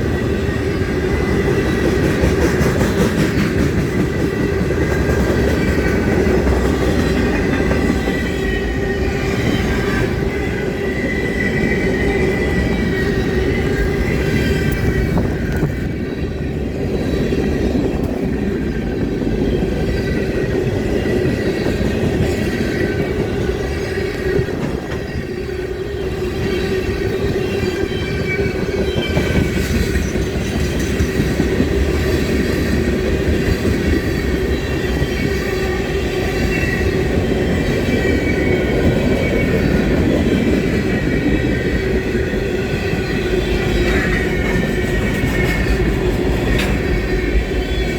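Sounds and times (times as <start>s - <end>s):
train rumbling past: 0.0s - 47.9s.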